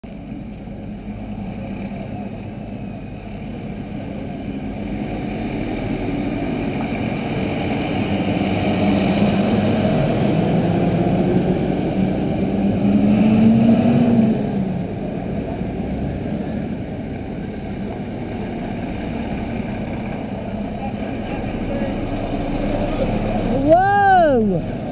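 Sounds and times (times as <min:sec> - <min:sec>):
lorry diesel engines passing: 0:00.0 - 0:24.9.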